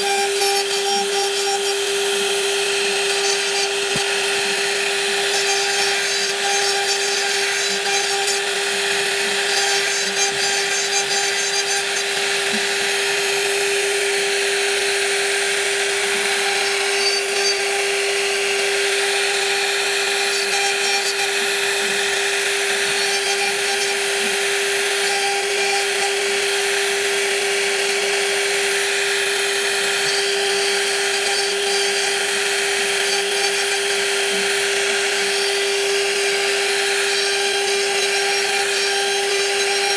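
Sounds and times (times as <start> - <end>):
woodworking machine cutting wood: 0.0 - 39.9.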